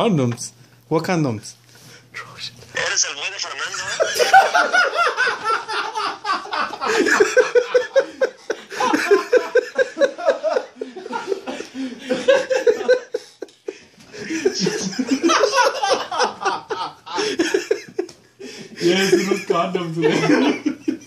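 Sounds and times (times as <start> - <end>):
men laughing: 3.4 - 21.0.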